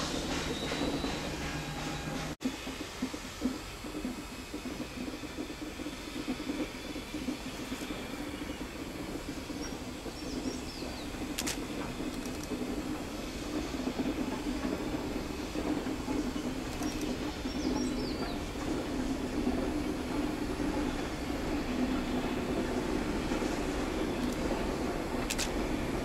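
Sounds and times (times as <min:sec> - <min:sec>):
distant steam train rumbling: 0:00.0 - 0:26.0.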